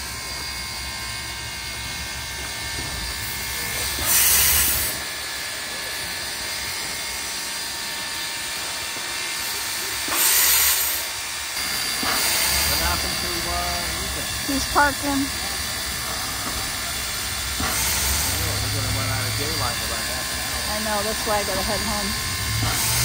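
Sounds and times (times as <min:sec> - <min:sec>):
steady low steam hiss: 0:00.0 - 0:23.0
steam hissing bursts: 0:00.0 - 0:23.0.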